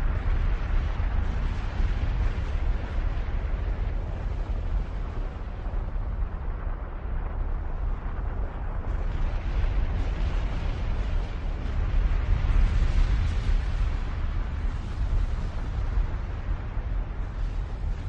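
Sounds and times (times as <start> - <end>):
deep volcanic rumble: 0.0 - 18.0.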